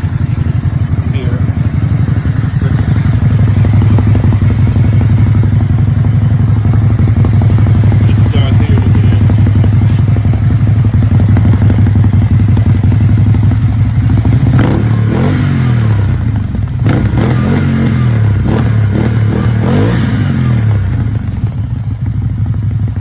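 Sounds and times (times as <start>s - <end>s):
three-wheeler engine revving: 0.0s - 23.0s.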